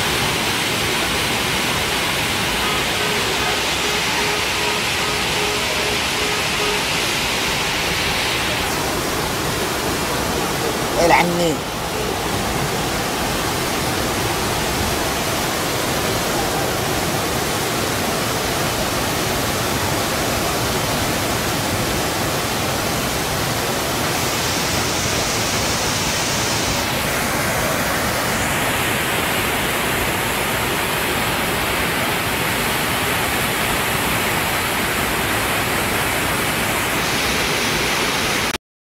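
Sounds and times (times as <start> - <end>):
floodwater rushing: 0.0 - 38.6.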